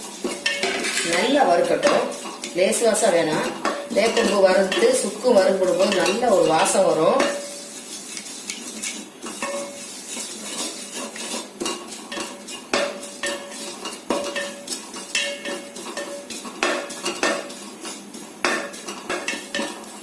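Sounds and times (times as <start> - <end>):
spoon scraping a pan: 0.0 - 20.0.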